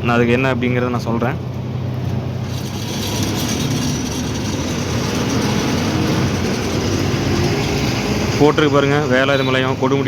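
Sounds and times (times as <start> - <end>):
road noise: 0.0 - 10.0
truck diesel engine running: 0.2 - 10.0.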